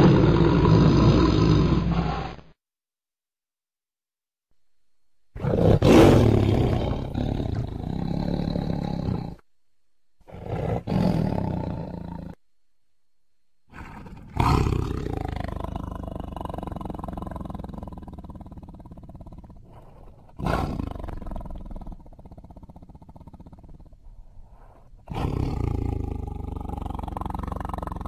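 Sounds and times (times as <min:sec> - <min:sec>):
tiger roaring: 0:00.0 - 0:02.4, 0:05.4 - 0:09.4, 0:10.2 - 0:12.4, 0:13.7 - 0:28.0.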